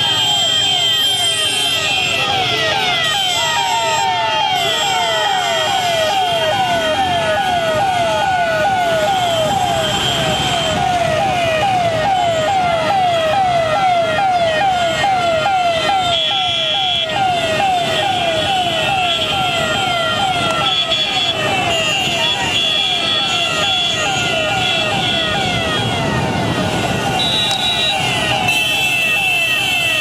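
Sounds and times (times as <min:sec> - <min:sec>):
siren wailing: 0:00.0 - 0:30.0
traffic noise: 0:00.0 - 0:30.0.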